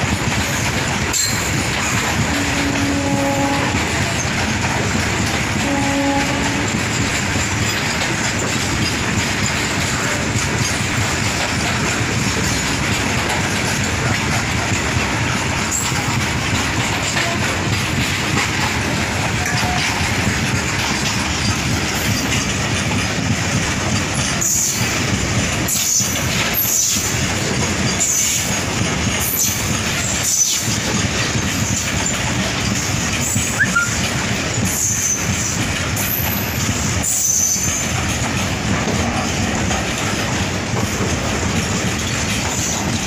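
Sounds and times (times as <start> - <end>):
freight train wheels on rails: 0.0 - 43.0.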